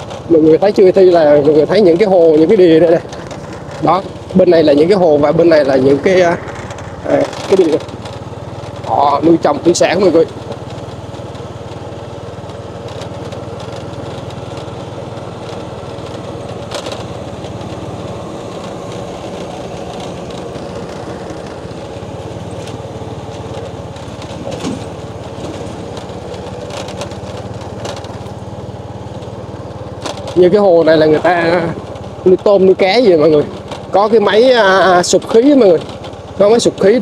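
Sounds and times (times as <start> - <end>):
small motorbike engine cruising: 0.0 - 37.0.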